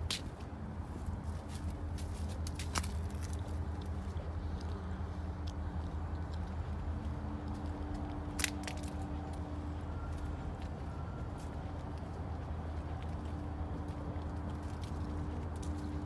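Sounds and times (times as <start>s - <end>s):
footsteps crunching on dry leaves: 0.1s - 4.8s, 6.8s - 16.0s.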